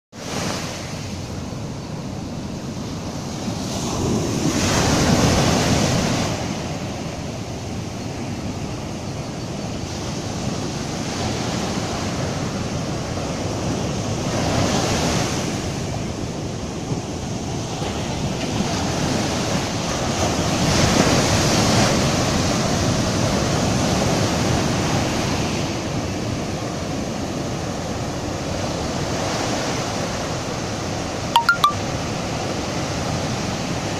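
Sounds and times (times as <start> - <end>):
surf washing on sandy beach: 0.2 - 33.9.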